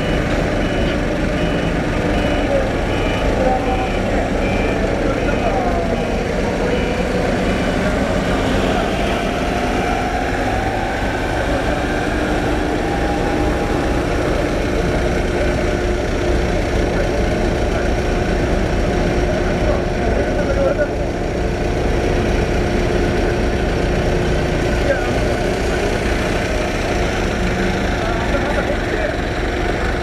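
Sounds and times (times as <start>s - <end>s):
machinery engines idling drone: 0.0s - 30.0s.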